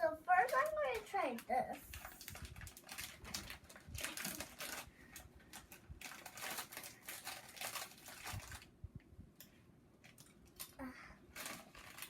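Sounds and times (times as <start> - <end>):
plastic snack bag crinkling: 0.3 - 8.8, 10.0 - 12.0.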